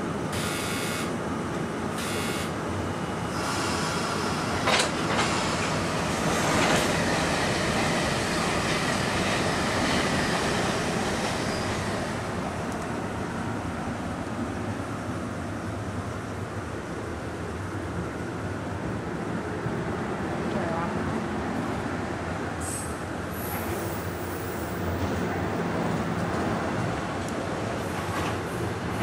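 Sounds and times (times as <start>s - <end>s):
train rail and wheel noise: 0.0s - 29.0s.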